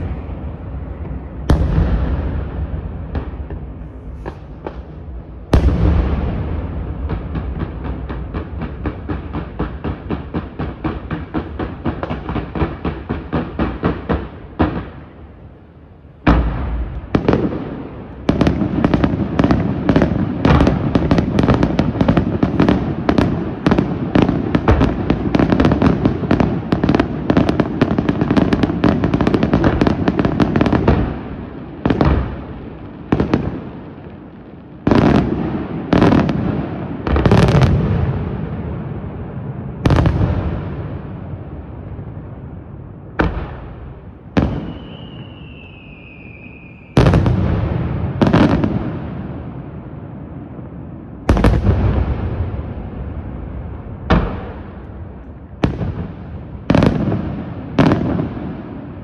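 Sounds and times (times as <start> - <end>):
fireworks crackling pops: 0.0 - 15.2, 16.2 - 38.2, 43.1 - 49.0, 51.2 - 53.2, 53.9 - 58.8
fireworks bangs: 0.0 - 59.0.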